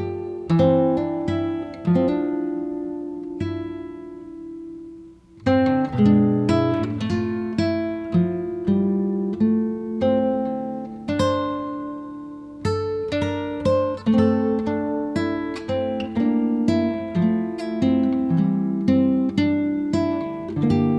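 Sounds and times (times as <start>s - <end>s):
acoustic guitar music: 0.0s - 20.9s.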